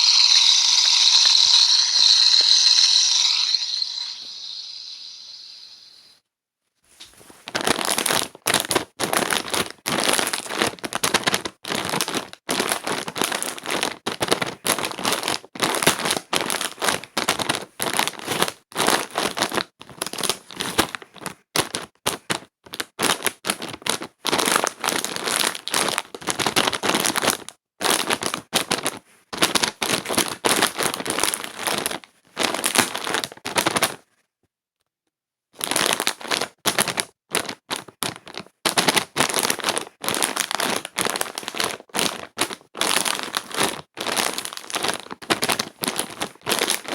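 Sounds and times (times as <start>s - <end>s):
close crackling and crinkling: 6.6s - 34.5s, 35.6s - 46.9s.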